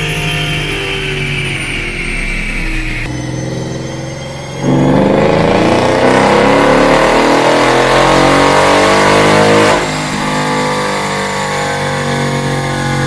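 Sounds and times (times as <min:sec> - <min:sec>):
car engine full-throttle revving: 0:00.0 - 0:13.0.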